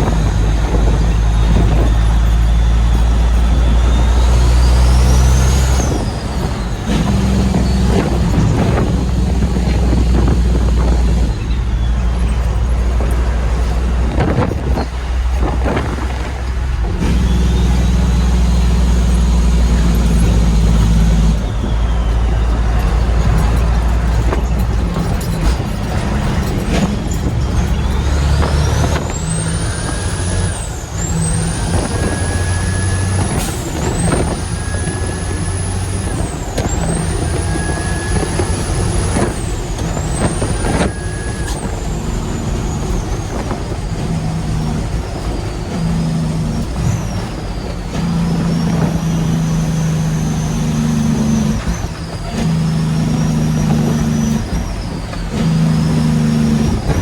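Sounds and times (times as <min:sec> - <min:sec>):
diesel truck accelerating: 0:00.0 - 0:57.0.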